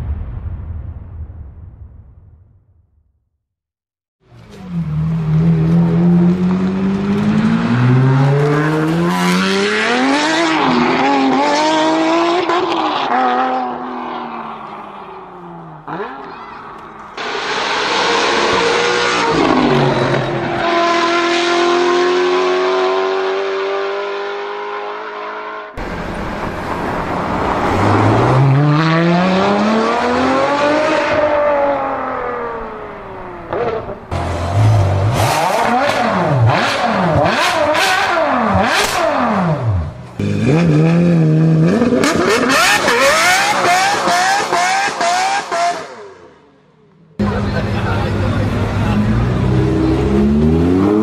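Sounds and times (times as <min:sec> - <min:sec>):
car engine revving: 0:04.3 - 0:46.6, 0:47.2 - 0:51.0.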